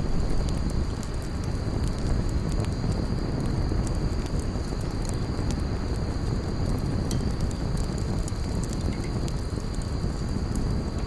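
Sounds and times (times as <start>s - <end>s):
fire popping: 0.0s - 11.0s
wood fire crackling: 0.0s - 11.0s.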